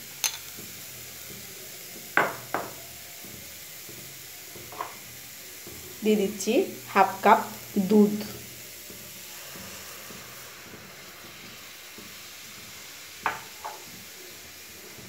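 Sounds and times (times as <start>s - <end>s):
milk sizzling in a pan: 0.0s - 15.0s.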